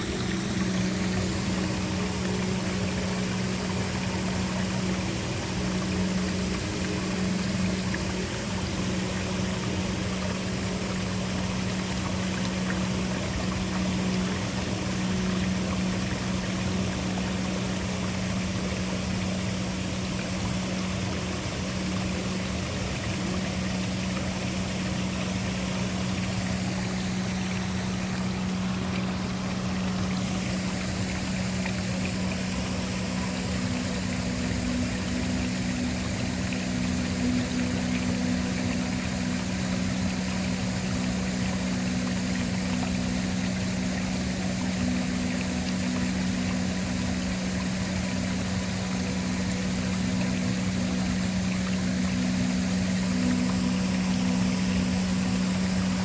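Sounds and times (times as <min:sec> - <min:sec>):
low even hum: 0:00.0 - 0:56.0
waterfall rushing: 0:00.0 - 0:56.0.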